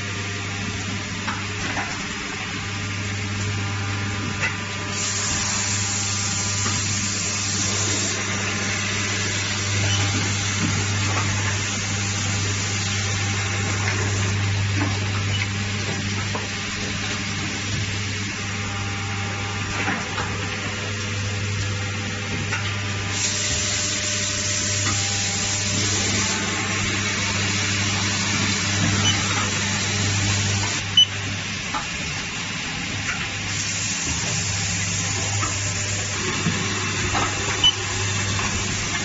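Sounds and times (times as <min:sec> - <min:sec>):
machine humming: 0:00.0 - 0:39.0.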